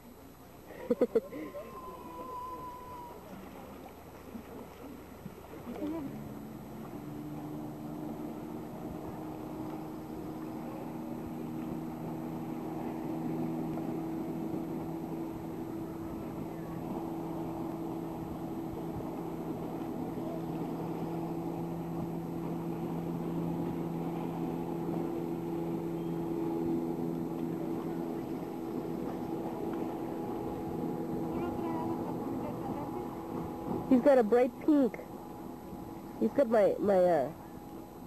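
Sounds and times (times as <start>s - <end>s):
engine hum: 0.0s - 38.0s.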